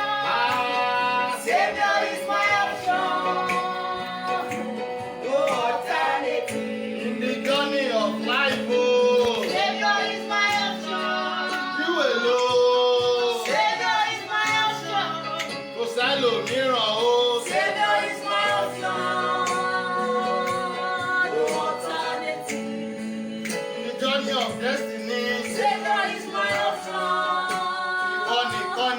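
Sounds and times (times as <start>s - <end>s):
woman singing gospel song: 0.0s - 28.9s.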